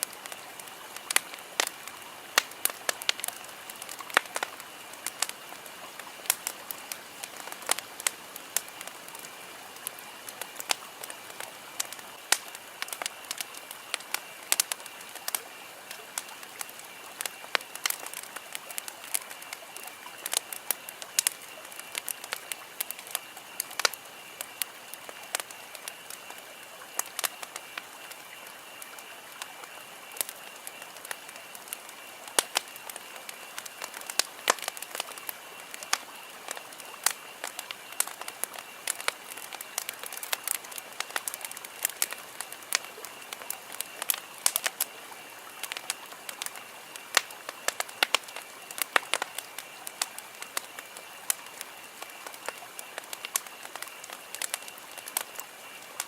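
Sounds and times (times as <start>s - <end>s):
soft hiss of fire: 0.0s - 56.0s
wood crackling and popping: 0.0s - 56.0s.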